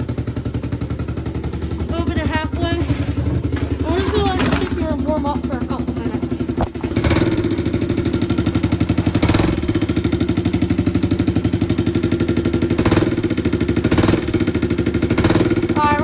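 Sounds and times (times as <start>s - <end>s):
dirt bike engine running: 0.0s - 16.0s
engine throttle blips: 0.0s - 16.0s.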